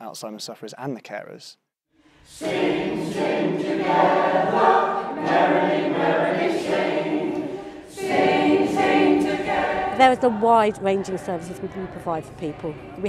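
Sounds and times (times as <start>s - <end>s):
group of people singing: 2.1s - 13.0s.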